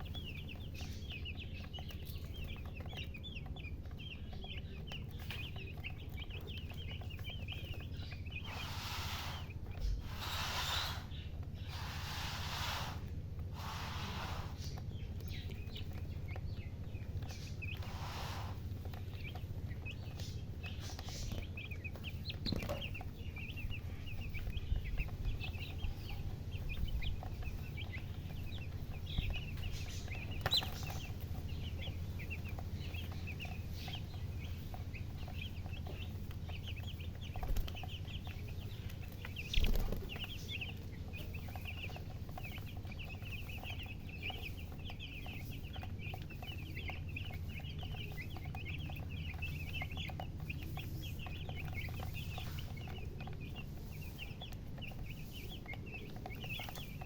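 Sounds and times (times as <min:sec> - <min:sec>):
baby chicks peeping: 0:00.0 - 0:57.0
steady low hum: 0:00.0 - 0:57.0.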